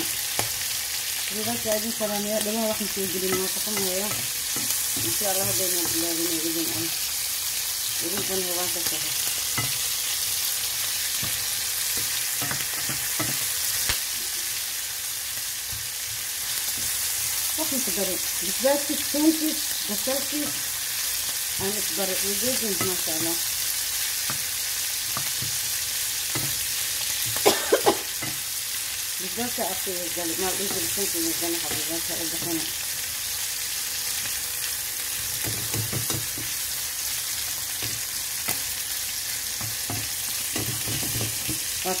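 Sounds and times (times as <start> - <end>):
meat and onions sizzling: 0.0 - 42.0.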